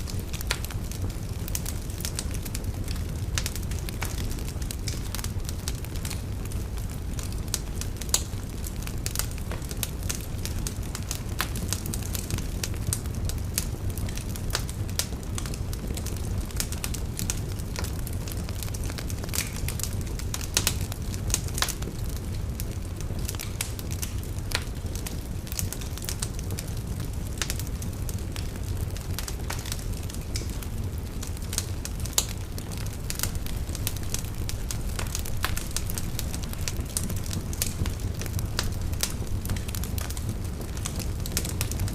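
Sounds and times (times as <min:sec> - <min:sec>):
burning wood crackling and popping: 0:00.0 - 0:41.9
low rumble of flames: 0:00.0 - 0:41.9.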